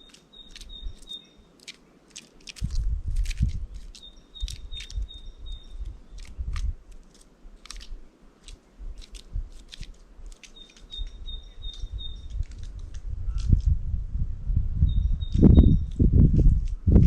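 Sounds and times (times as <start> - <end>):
birds pecking and cracking seeds: 0.0 - 13.7.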